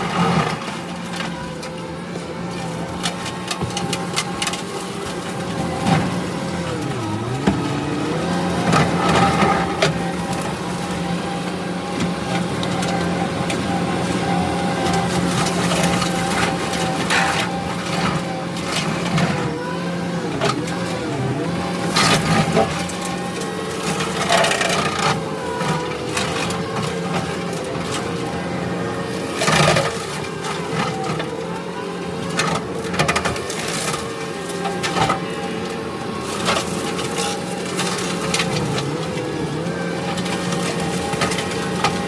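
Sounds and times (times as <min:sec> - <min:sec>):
brush cutter chewing brush: 0:00.0 - 0:42.0
diesel engine running under load: 0:00.0 - 0:42.0.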